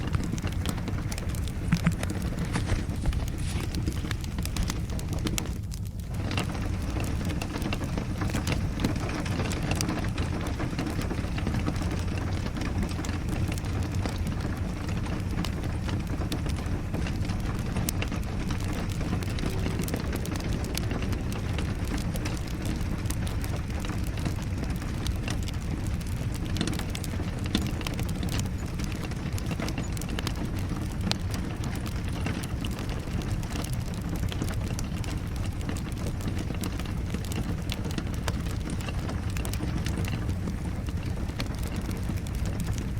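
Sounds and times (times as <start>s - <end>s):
steady rain: 0.0s - 42.9s
wood fire crackling and popping: 0.0s - 42.9s.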